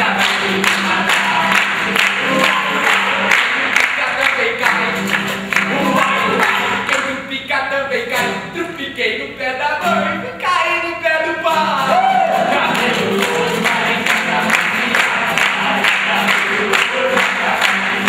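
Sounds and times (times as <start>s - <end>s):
acoustic guitar: 0.0s - 18.0s
voices singing together: 0.0s - 18.0s.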